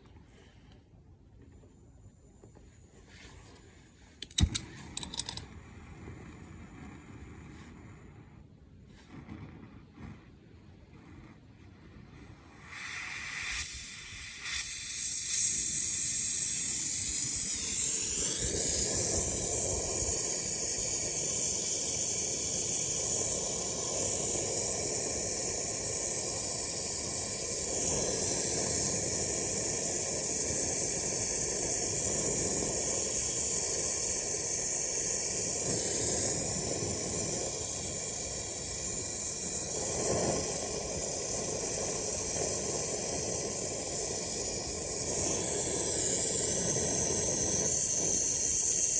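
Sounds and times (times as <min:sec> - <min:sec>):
gas torch hissing: 0:04.2 - 0:08.5, 0:12.1 - 0:48.9.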